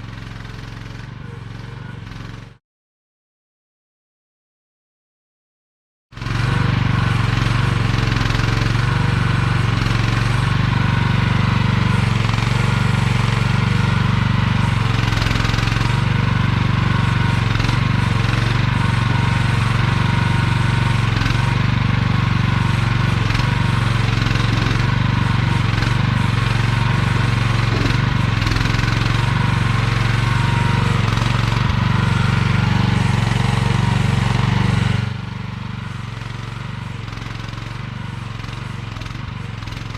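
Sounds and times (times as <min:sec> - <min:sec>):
excavator engine running loudly: 0:00.0 - 0:02.6, 0:06.2 - 0:39.9.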